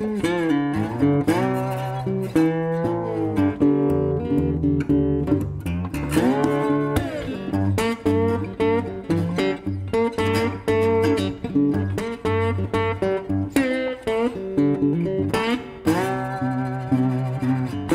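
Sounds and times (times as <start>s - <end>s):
plucked guitar: 0.0s - 17.9s.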